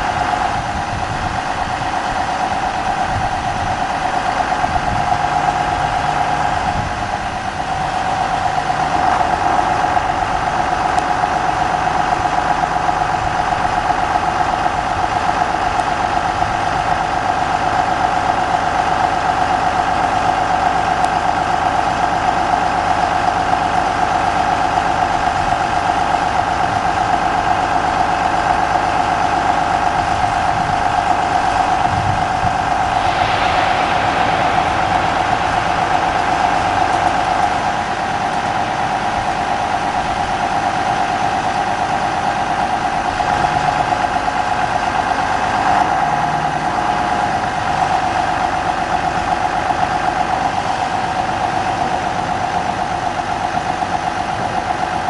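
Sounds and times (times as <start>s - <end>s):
hydraulic whine: 0.0s - 55.0s
tractor diesel engine running: 0.0s - 55.0s.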